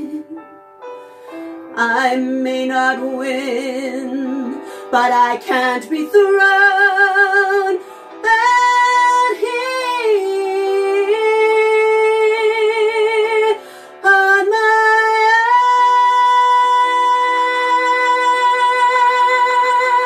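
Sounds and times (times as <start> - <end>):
woman singing with vibrato: 0.0 - 0.4, 1.7 - 20.0.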